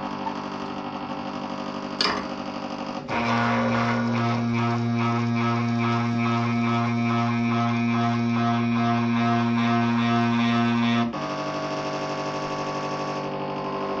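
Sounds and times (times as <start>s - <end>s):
drive motors humming: 0.0s - 14.0s
loud droning motor with ripple: 0.0s - 14.0s.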